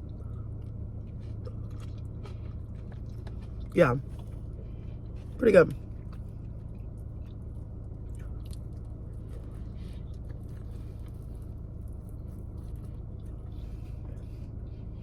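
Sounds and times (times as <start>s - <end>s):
wet chewing and mouth smacks: 0.0s - 14.4s
steady low hum: 0.0s - 15.0s.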